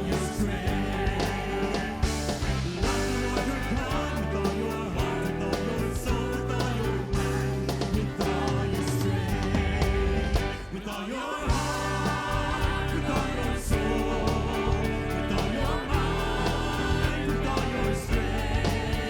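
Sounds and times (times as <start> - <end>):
band playing worship music: 0.0 - 19.0
congregation singing: 0.0 - 19.0.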